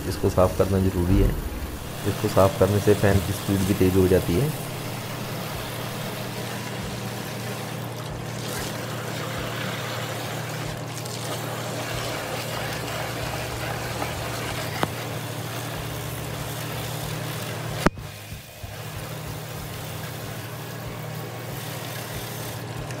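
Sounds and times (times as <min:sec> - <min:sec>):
low mechanical hum: 0:00.0 - 0:23.0
water spraying from a hose: 0:00.0 - 0:23.0.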